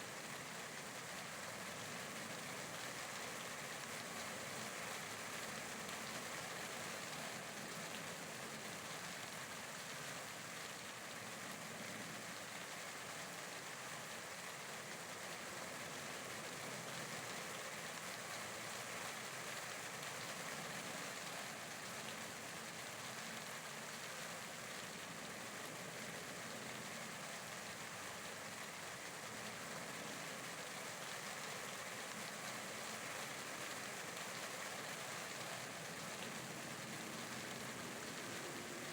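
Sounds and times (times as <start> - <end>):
steady rainfall hiss: 0.0 - 38.9.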